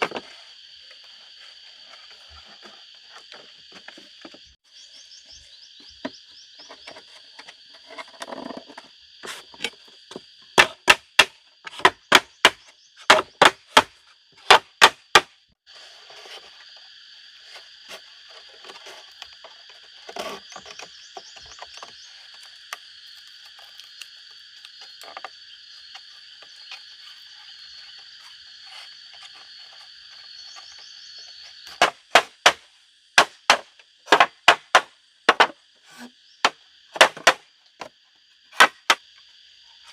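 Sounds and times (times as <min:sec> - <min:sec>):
frogs and insects chorus: 0:00.0 - 0:39.9.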